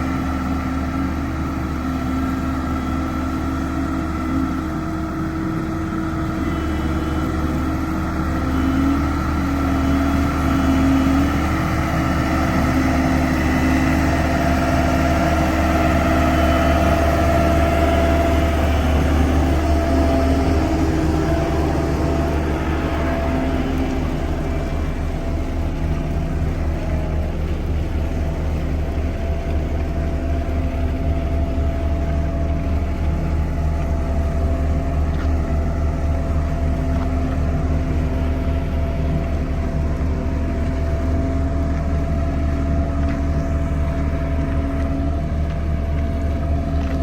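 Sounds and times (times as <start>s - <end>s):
heavy machine engine humming: 0.0s - 47.0s.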